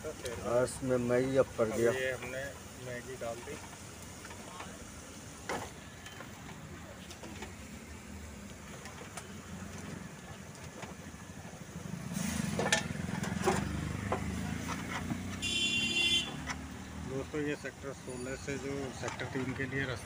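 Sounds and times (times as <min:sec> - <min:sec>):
street traffic: 0:00.0 - 0:20.0
vehicle engine rumble: 0:00.0 - 0:20.0.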